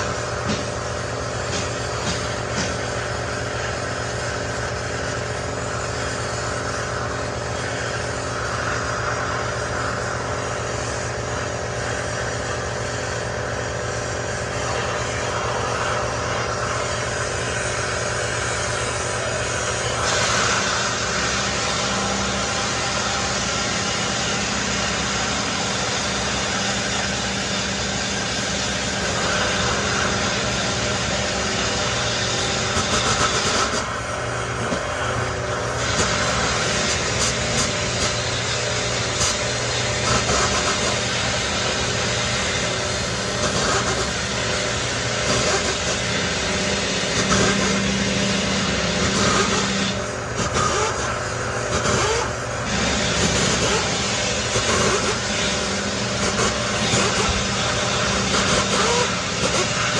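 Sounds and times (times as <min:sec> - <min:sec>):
steady mechanical hum: 0:00.0 - 0:59.9
torch flame hissing: 0:00.0 - 0:59.9.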